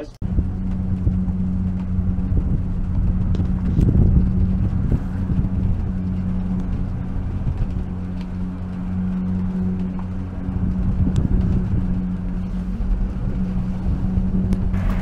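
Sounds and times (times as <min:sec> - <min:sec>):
cable car mechanical hum: 0:00.0 - 0:15.0.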